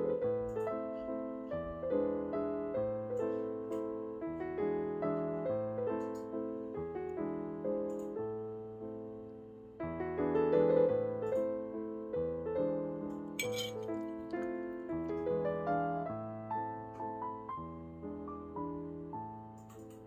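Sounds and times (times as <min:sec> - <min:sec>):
gentle solo piano music: 0:00.0 - 0:20.0.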